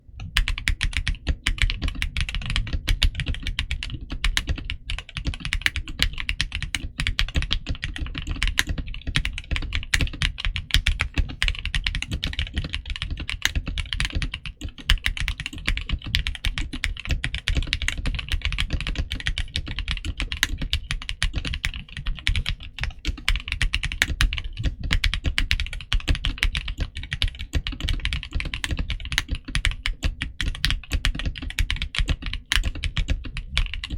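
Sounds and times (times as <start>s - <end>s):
mechanical keyboard typing: 0.2s - 33.9s.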